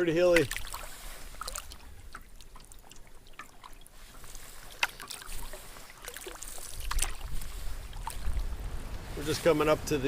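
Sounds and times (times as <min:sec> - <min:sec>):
paddle splashing in water: 0:00.0 - 0:09.2.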